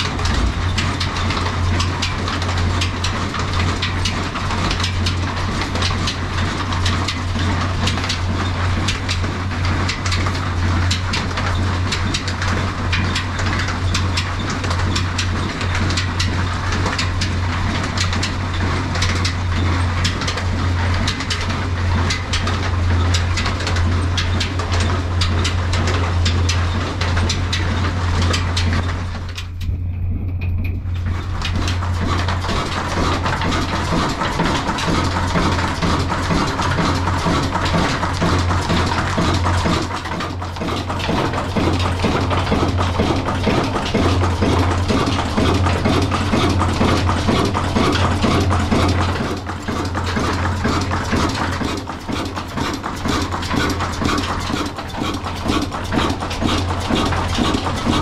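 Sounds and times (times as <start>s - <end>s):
belts and pulleys whirring: 0.0s - 58.0s
constant low hum: 0.0s - 58.0s
diesel engine running: 0.0s - 58.0s.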